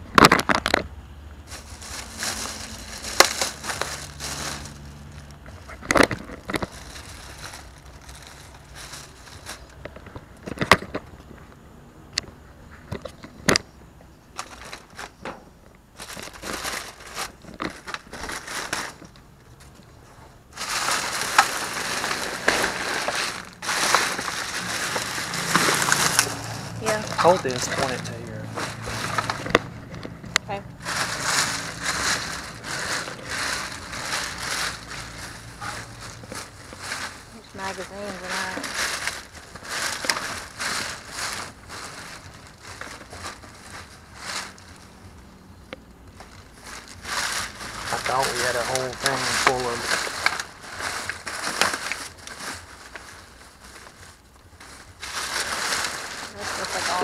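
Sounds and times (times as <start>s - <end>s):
plastic bags rustling: 1.4s - 11.1s, 14.3s - 57.0s.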